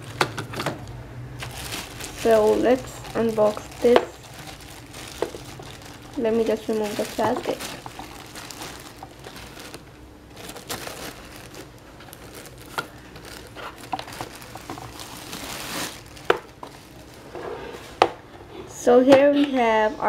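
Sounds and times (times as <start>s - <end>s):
plastic wrapping crinkling: 0.0s - 18.2s.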